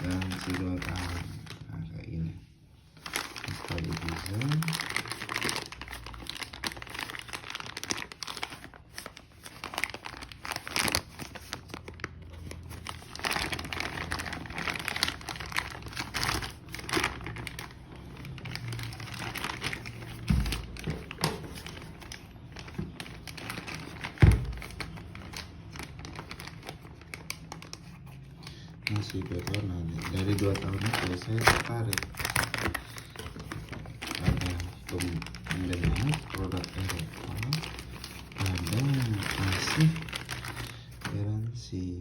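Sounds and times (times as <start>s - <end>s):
packaging crinkling and rustling: 0.0s - 2.0s, 2.8s - 41.5s.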